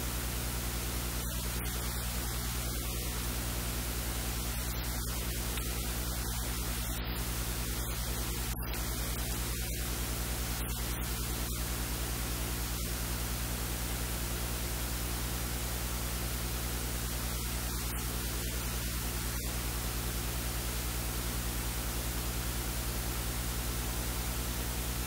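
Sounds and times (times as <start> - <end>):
low electrical hum: 0.0 - 25.0
steady hiss: 0.0 - 25.0.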